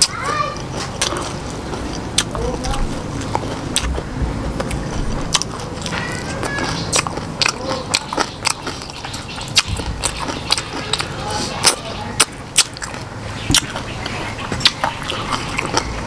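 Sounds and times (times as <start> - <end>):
person chewing crunchy food: 0.0 - 16.0
mouth clicks: 0.8 - 16.0.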